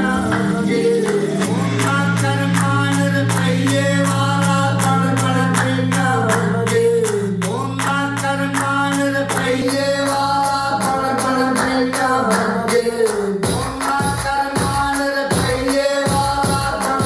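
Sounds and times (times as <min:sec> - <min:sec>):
heavy bass drum beat: 0:00.0 - 0:17.0
pop song with vocals: 0:00.0 - 0:17.0.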